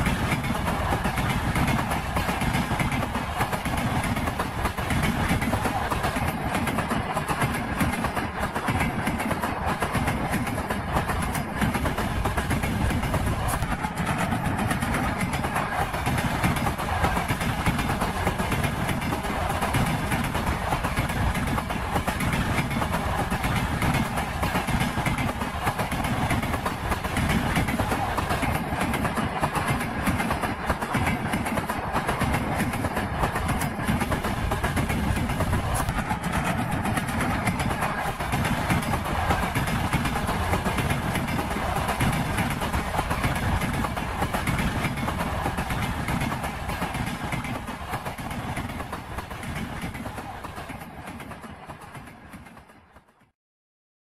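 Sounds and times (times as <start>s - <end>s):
train wheels clattering: 0.0s - 53.3s.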